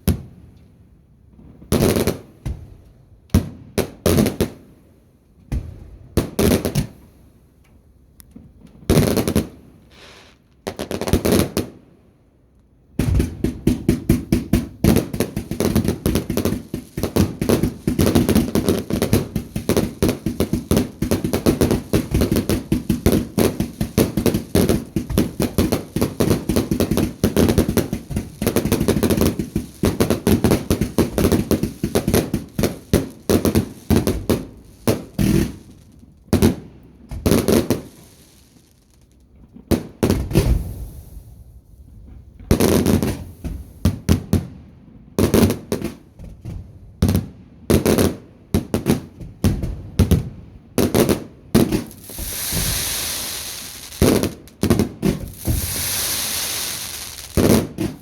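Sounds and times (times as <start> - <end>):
fireworks cracking and banging: 3.4 - 4.7, 5.4 - 7.0, 8.3 - 11.8, 13.0 - 41.3, 41.9 - 44.6, 45.2 - 58.0.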